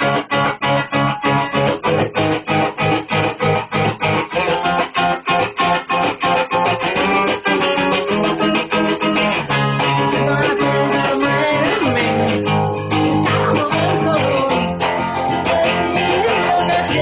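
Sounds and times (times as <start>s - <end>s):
guitar music with bass: 0.0s - 17.0s.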